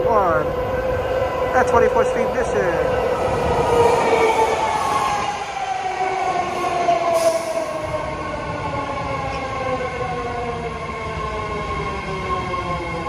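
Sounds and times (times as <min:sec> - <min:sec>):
train electric propulsion whine: 0:00.0 - 0:13.0.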